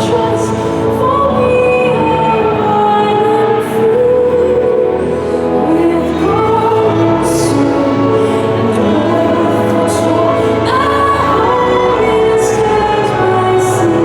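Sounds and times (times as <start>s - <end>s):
musical accompaniment: 0.0s - 14.0s.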